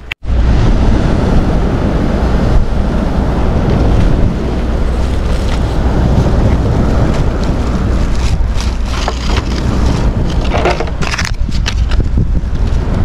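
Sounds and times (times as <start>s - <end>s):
surf on the shore: 0.0s - 13.0s
wind buffeting microphone: 0.0s - 13.0s.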